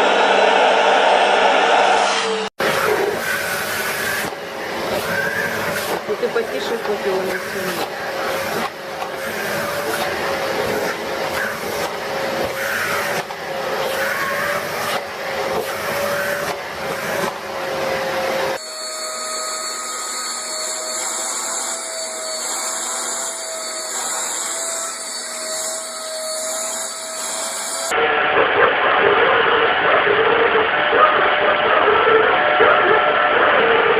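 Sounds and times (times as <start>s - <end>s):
vacuum cleaner whine: 0.0s - 33.9s.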